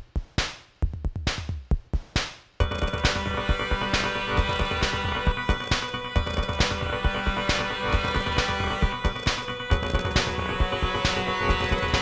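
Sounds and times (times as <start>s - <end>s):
music with driving drum beat: 0.0s - 12.0s.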